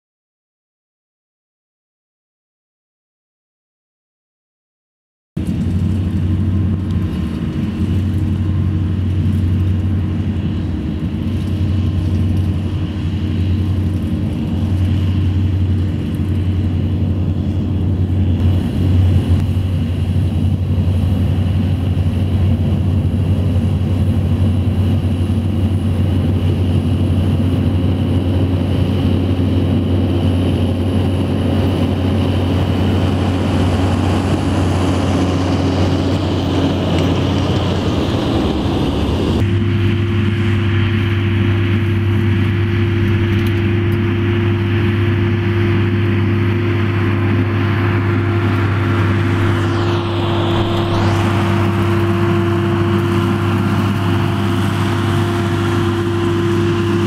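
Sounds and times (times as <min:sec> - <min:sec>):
mechanical whine: 0:05.4 - 0:57.0
tractor engine drone: 0:05.4 - 0:57.0.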